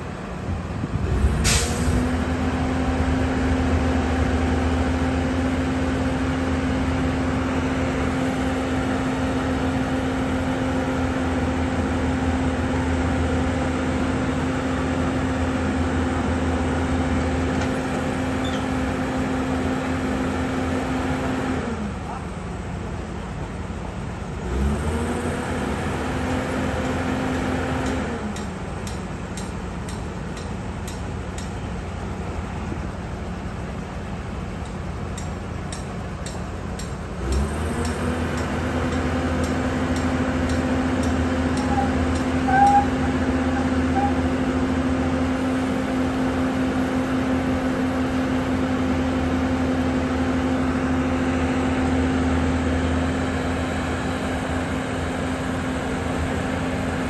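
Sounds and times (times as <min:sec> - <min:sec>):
diesel engine revving and idling: 0:00.0 - 0:57.0.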